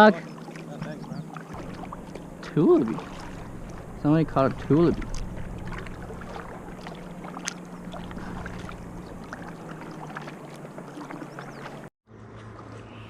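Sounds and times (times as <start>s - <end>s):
water lapping against hull: 0.0s - 11.9s
steady low hum: 0.3s - 11.9s.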